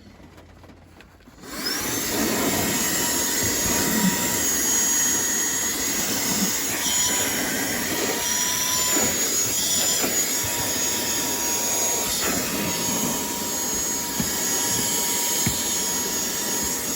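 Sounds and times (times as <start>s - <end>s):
handheld vacuum whining: 0.7s - 16.9s.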